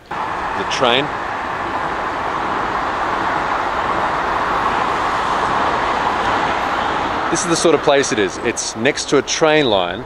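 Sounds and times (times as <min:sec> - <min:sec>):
electric train passing: 0:00.0 - 0:10.0.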